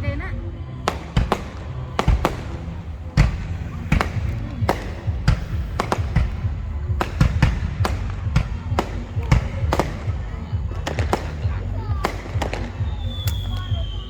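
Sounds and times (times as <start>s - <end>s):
fireworks shells bursting: 0.9s - 14.0s.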